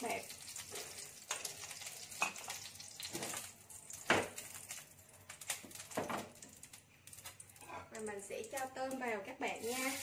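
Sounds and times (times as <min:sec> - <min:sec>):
frying pan oil clicking: 0:00.0 - 0:10.0.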